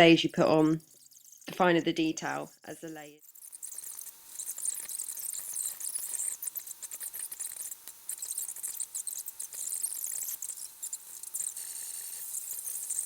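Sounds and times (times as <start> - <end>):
high scratchy chittering: 0.0 - 13.0.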